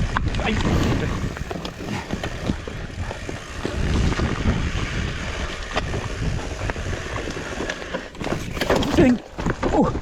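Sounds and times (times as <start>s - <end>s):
bike knocking and rattling: 0.0s - 10.0s
wind buffeting microphone: 0.0s - 10.0s.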